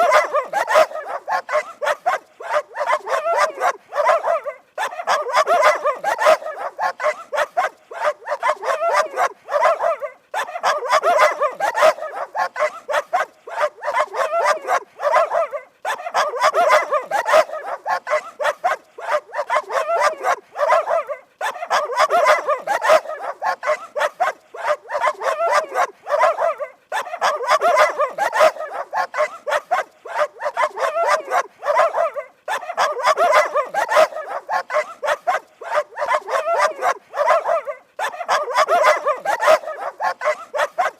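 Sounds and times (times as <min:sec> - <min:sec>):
dog barking: 0:00.0 - 0:40.9.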